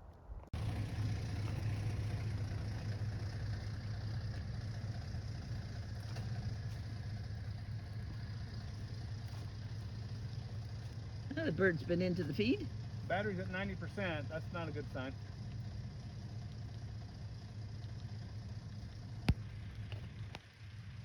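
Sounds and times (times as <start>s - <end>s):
road noise: 0.0s - 21.0s
vehicle engine running: 0.5s - 21.0s.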